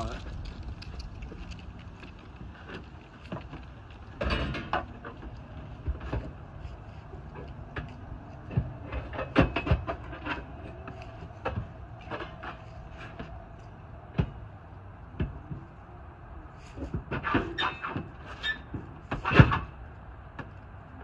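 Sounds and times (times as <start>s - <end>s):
knocks and clatters in van: 1.3s - 15.8s, 16.7s - 20.6s.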